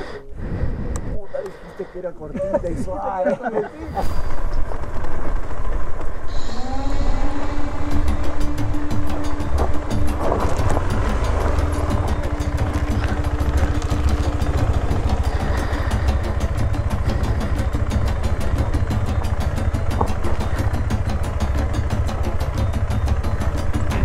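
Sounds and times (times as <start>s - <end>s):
motorcycle engine running: 3.8s - 24.0s.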